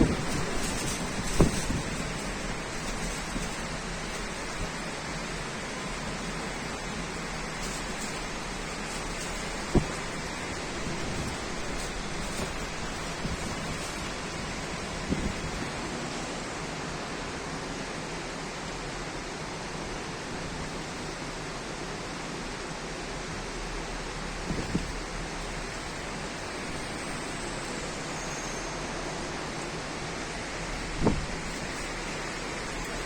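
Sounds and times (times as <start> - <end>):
heavy rain hissing: 0.0 - 33.0.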